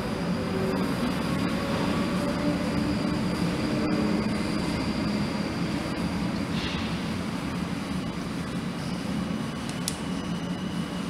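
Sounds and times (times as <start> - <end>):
electric train rumbling past: 0.0 - 11.0.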